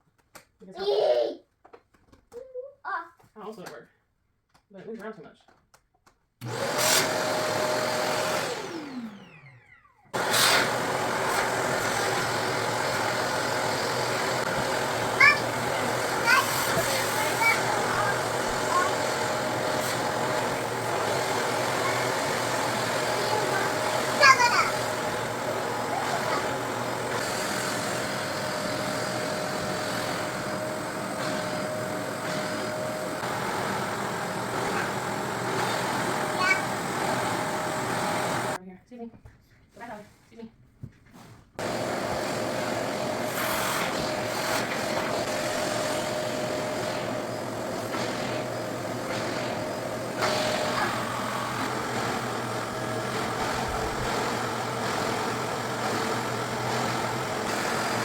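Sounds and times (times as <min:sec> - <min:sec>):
vacuum cleaner motor whine: 0:06.4 - 0:38.6, 0:41.6 - 0:58.0.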